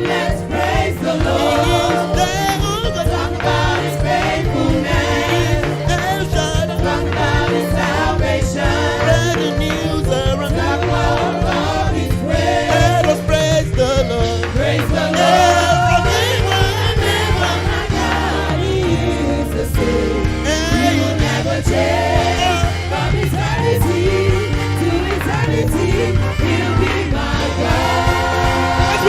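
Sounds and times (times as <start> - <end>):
band with bass keyboard drums: 0.0 - 29.0
voices singing call-and-response: 0.0 - 29.0.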